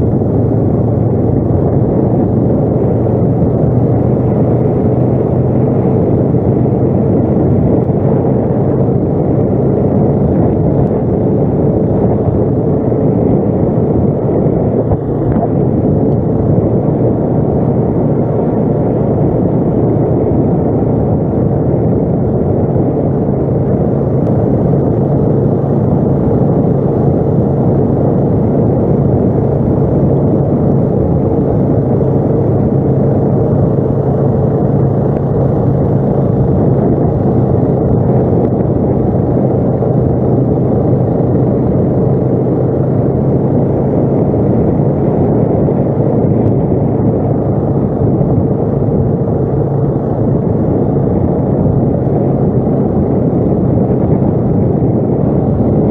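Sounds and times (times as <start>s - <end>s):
atv engine droning: 0.0s - 55.9s
road and wind noise: 0.0s - 55.9s.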